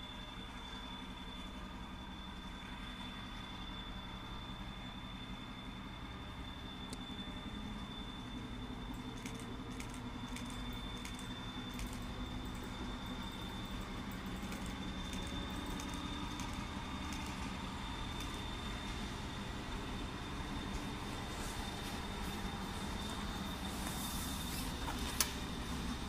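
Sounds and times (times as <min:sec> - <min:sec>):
electric locomotive hum: 0:00.0 - 0:26.0
thin high whine: 0:00.1 - 0:26.0.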